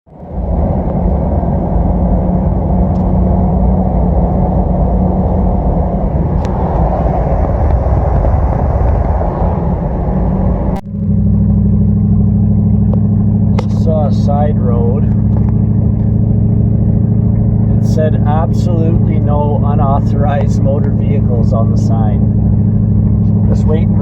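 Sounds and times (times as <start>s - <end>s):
road and tyre noise: 0.0s - 24.0s
pickup truck engine running: 0.1s - 24.0s.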